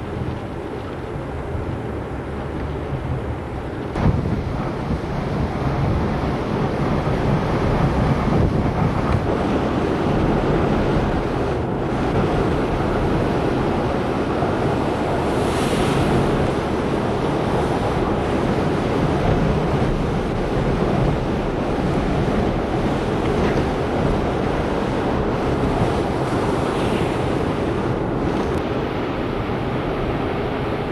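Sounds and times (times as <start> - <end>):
heavy surf: 0.0 - 30.9
strong wind: 0.0 - 30.9
wind buffeting microphone: 0.0 - 30.9.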